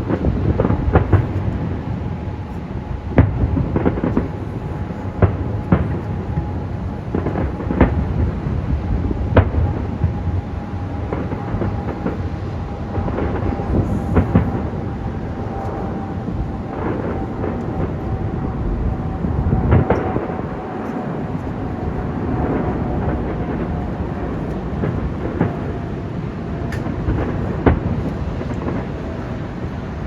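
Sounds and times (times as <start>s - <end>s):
fireworks rumbling: 0.0s - 30.0s.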